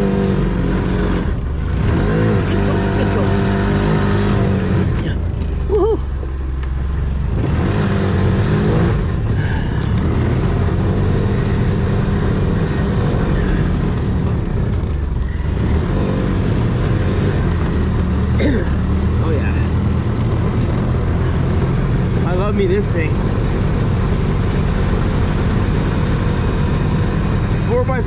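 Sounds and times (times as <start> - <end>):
utv engine running: 0.0 - 28.0.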